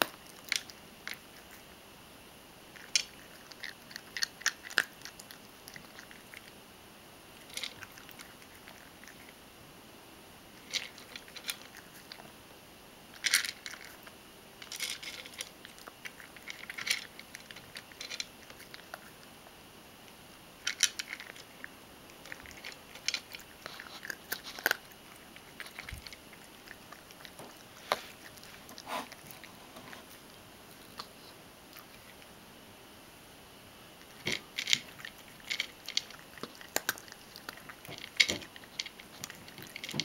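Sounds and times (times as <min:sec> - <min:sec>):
cat crunching dry kibble: 0:00.0 - 0:01.7, 0:02.7 - 0:06.6, 0:07.4 - 0:09.4, 0:10.5 - 0:12.3, 0:13.1 - 0:19.4, 0:20.6 - 0:32.3, 0:34.0 - 0:40.0.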